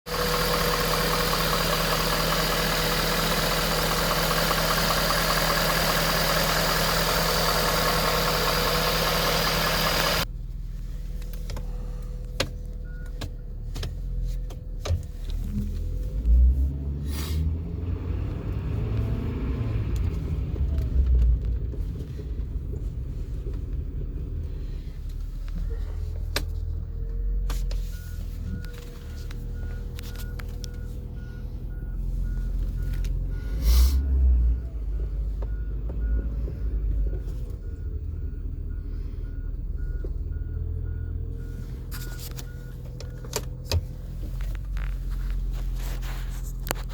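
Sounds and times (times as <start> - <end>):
truck engine rumbling: 0.0 - 46.9
engine whine: 0.1 - 10.4, 11.2 - 46.9.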